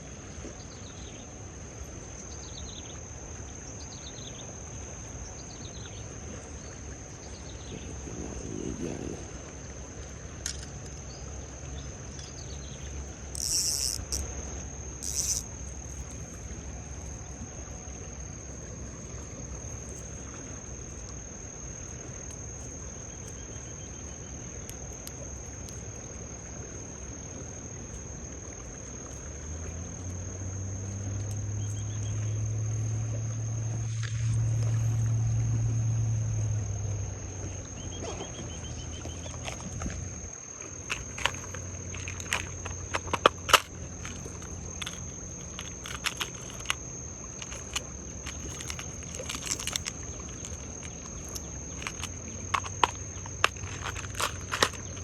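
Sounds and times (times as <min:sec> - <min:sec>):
insects droning: 0:00.0 - 0:55.0
low motor hum: 0:00.0 - 0:55.0.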